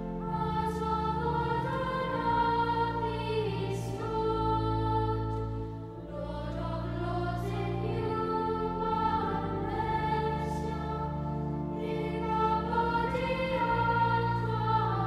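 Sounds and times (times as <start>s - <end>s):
choir singing slow chords: 0.0s - 15.0s.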